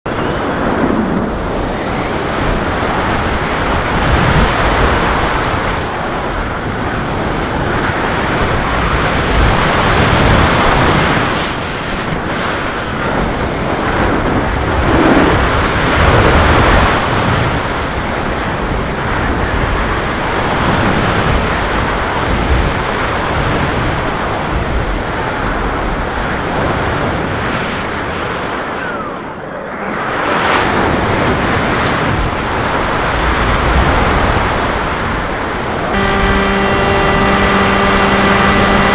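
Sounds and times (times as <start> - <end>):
wind rushing over microphone: 0.1 - 36.0.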